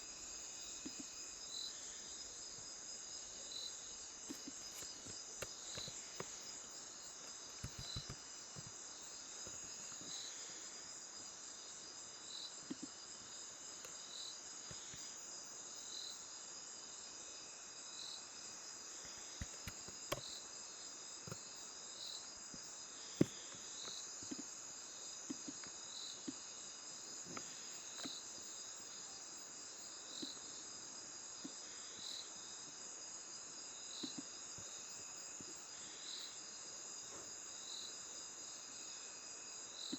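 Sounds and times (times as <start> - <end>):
crickets chirping: 0.0 - 39.9
high insect trill: 0.0 - 39.9.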